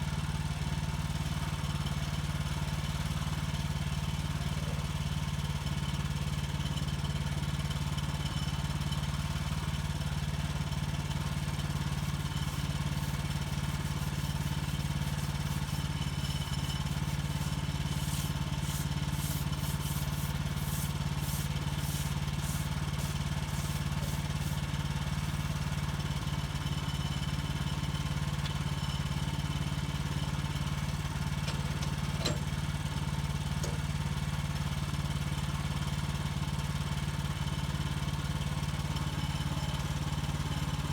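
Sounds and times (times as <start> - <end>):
sawmill gas engine running: 0.0 - 40.9.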